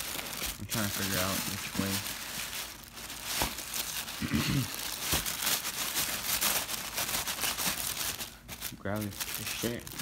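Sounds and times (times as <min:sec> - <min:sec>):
tissue paper crinkling: 0:00.0 - 0:10.0.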